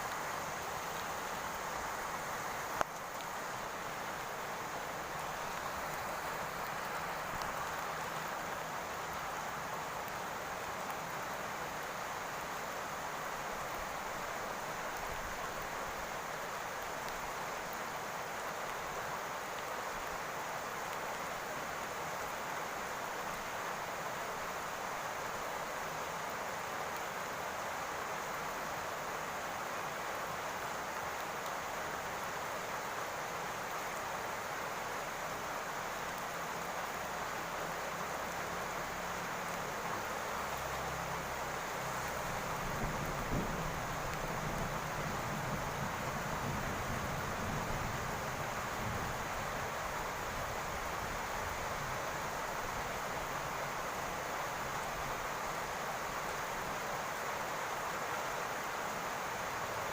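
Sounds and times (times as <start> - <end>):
rain falling on a roof: 0.0 - 59.9.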